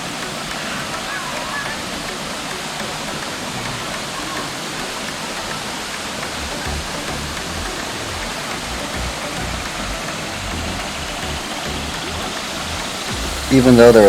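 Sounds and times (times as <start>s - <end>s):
background music: 0.0s - 14.0s
flowing water rushing: 0.0s - 14.0s.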